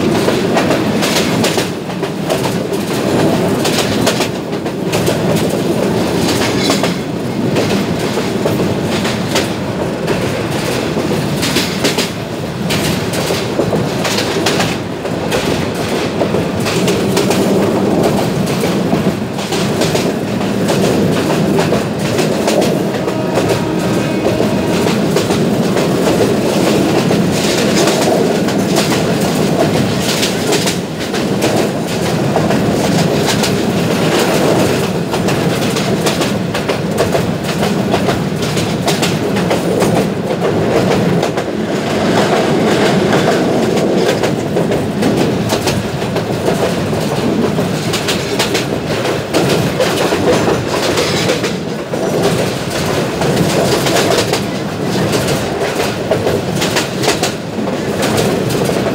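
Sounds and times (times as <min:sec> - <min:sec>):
train rumbling at speed: 0:00.0 - 0:58.9.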